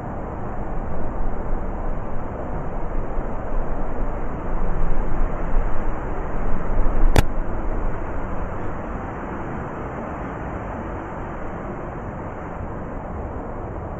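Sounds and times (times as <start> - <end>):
blizzard wind blowing in gusts: 0.0 - 13.9.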